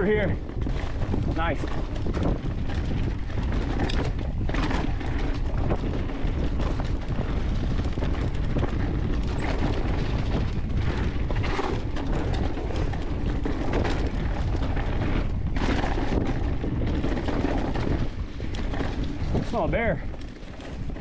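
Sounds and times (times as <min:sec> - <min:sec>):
bike clicks and rattles: 0:00.0 - 0:21.0
bike tyres rumbling on dirt: 0:00.0 - 0:21.0
wind buffeting microphone: 0:00.0 - 0:21.0.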